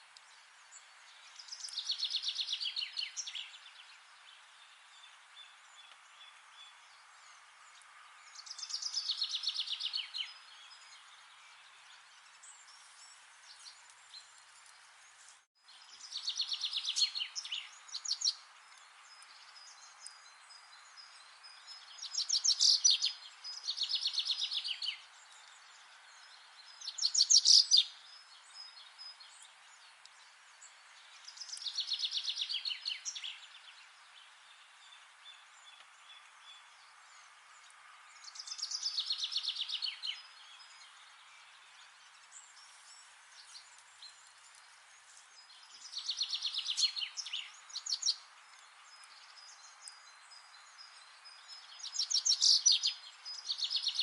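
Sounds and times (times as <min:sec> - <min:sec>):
faint steady hiss: 0:00.0 - 0:54.0
songbird singing trilled phrases: 0:00.4 - 0:07.4, 0:08.2 - 0:14.4, 0:15.7 - 0:54.0.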